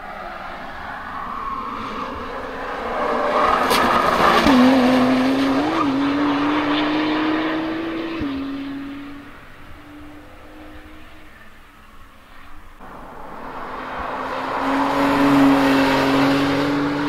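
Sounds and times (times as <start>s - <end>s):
sports car engine passing at speed: 0.1s - 17.0s.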